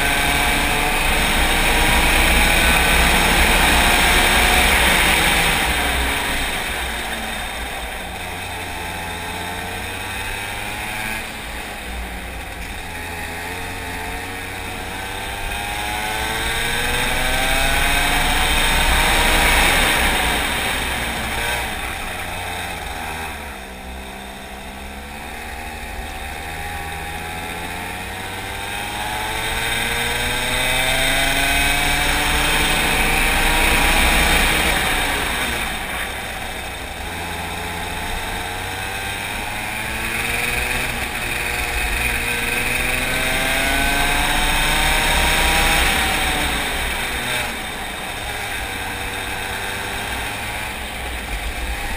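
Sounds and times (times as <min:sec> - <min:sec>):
racing kart engine revving: 0:00.0 - 0:51.9.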